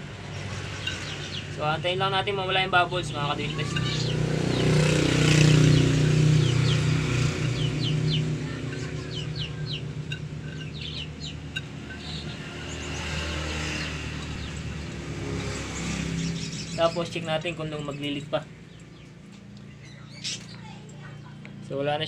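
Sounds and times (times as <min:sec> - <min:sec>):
vehicle engine running: 0:00.0 - 0:21.7
birds chirping: 0:00.0 - 0:22.0.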